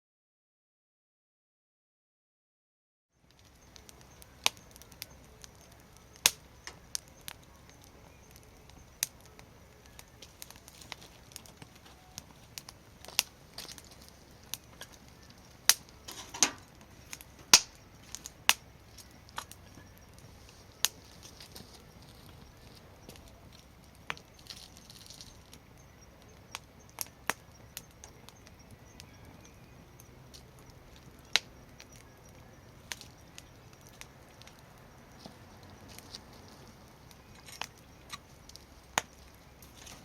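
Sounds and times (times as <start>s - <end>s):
faint steady hiss: 3.2s - 40.0s
wood fire crackling and popping: 3.2s - 40.0s.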